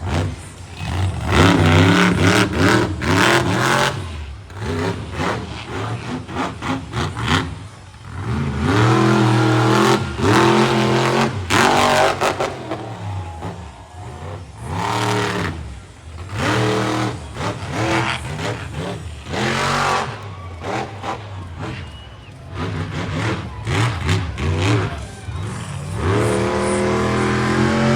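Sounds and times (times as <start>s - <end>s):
monster truck engine revving: 0.0s - 27.9s.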